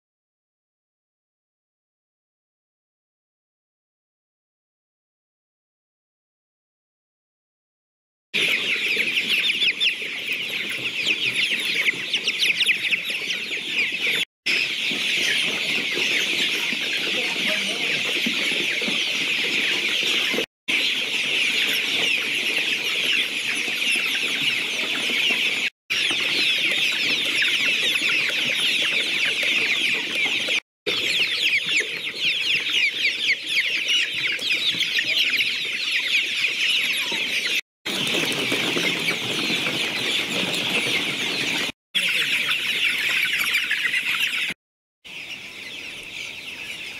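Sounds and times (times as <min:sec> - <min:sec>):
chicks peeping: 0:08.4 - 0:46.9.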